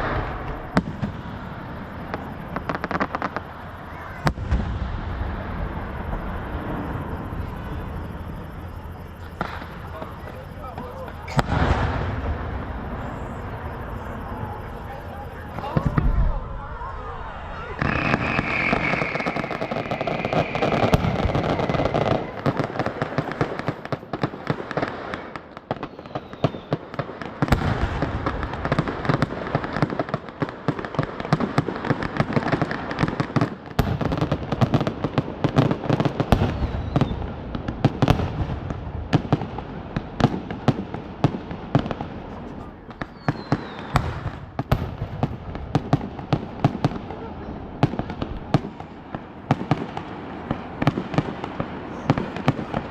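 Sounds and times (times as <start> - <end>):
fireworks bangs and crackling: 0.0 - 52.9
fireworks whistles: 0.0 - 52.9.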